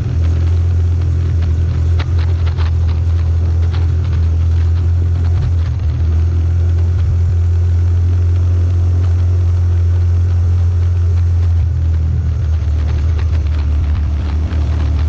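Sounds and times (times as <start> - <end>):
off-road vehicle engine droning: 0.0 - 15.0.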